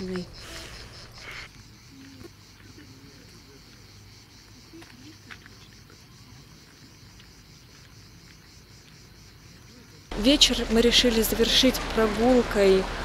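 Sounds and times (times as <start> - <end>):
insects chirring: 0.0 - 10.6.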